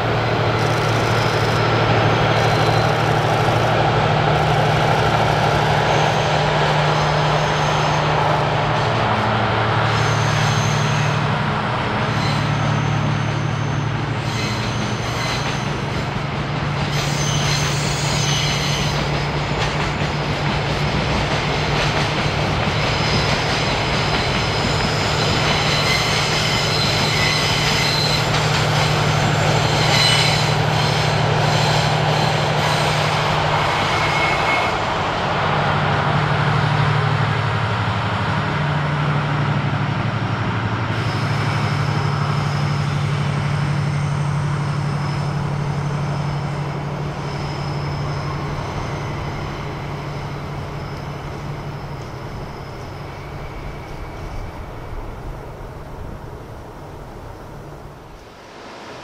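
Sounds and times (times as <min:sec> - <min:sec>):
train wheels squealing: 0:00.0 - 0:37.9, 0:38.6 - 0:56.6
diesel locomotive engine drone: 0:00.0 - 0:59.0.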